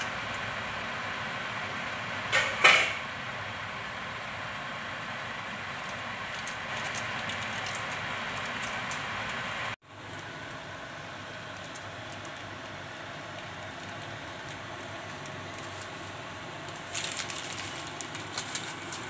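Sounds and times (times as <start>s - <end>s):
gas stove hissing: 0.0s - 19.0s.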